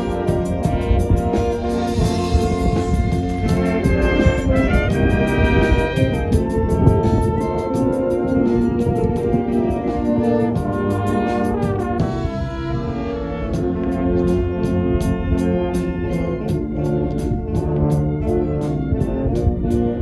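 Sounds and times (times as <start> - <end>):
brass ensemble playing: 0.0 - 20.0
drums and cymbals beat: 0.0 - 20.0.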